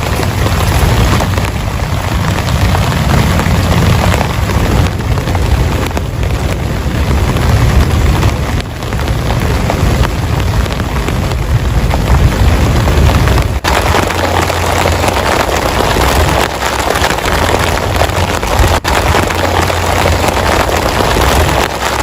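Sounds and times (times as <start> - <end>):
heavy rain on a tent: 0.0 - 22.0.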